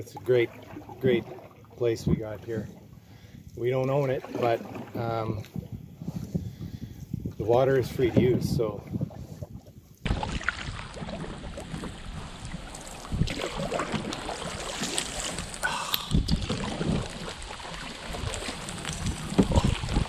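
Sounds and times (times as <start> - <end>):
water splashing around canoe: 0.0 - 20.0
wind buffeting microphone: 1.0 - 4.3, 4.9 - 20.0.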